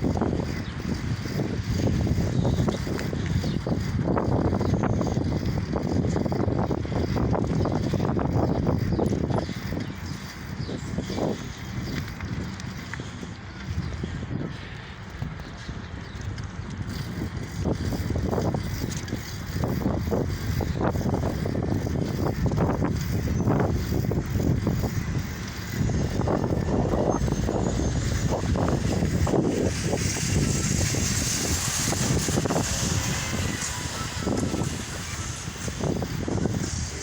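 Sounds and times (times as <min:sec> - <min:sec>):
road rumble: 0:00.0 - 0:37.0
wind buffeting microphone: 0:00.0 - 0:37.0.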